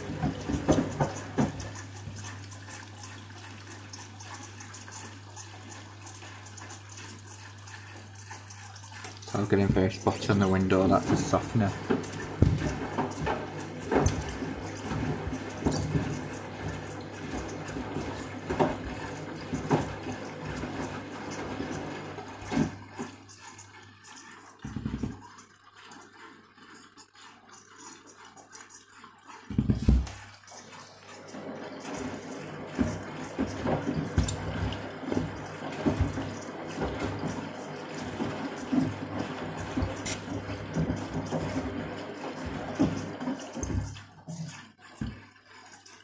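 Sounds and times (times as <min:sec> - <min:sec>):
water sloshing in washing machine drum: 0:00.0 - 0:46.0.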